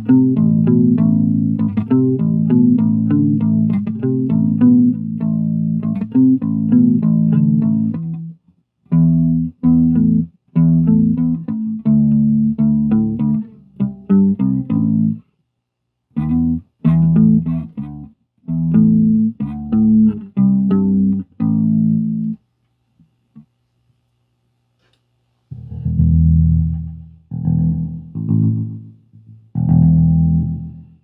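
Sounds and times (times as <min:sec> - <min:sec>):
electric bass with delay: 0:00.0 - 0:08.3, 0:08.9 - 0:15.2, 0:16.2 - 0:22.4, 0:25.5 - 0:31.0
faint amp hum: 0:00.0 - 0:31.0.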